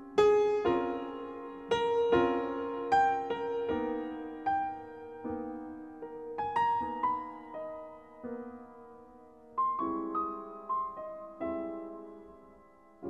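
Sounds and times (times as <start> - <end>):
slow solo piano melody: 0.0 - 13.0.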